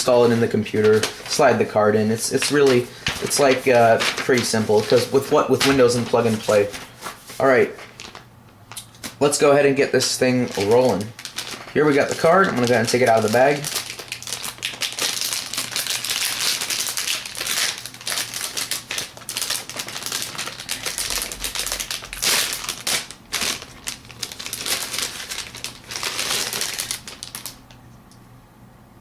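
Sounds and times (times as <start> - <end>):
plastic bag crinkling: 0.0 - 9.3, 10.0 - 27.8.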